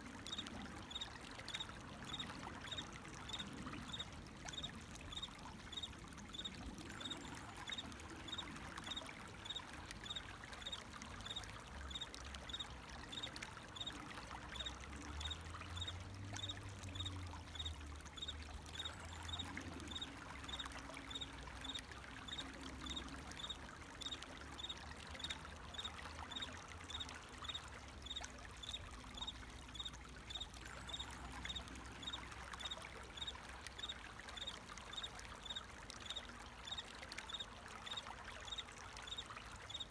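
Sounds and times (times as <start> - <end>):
water flowing: 0.0 - 39.9
crickets chirping: 0.3 - 13.9, 14.5 - 29.9, 30.8 - 37.4.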